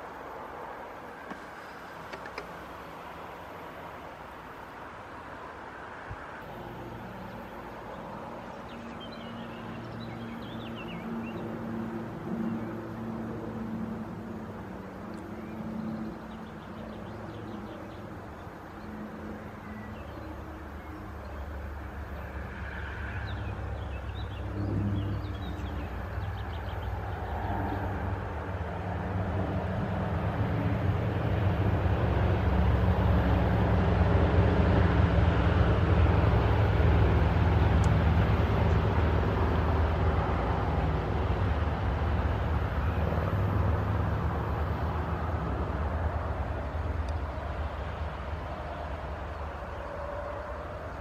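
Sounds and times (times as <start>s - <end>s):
motor vehicle engine rumble: 6.4s - 51.0s.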